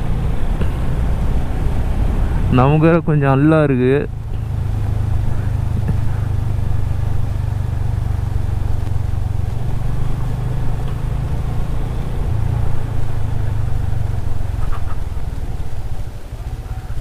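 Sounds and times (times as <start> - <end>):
motorcycle engine cruising: 0.0 - 17.0
rushing noise: 0.0 - 17.0.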